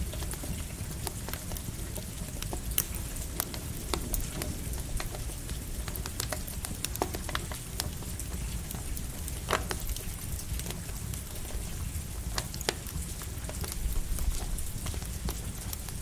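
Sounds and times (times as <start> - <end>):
campfire crackling and popping: 0.0 - 16.0
light rain hiss: 0.0 - 16.0.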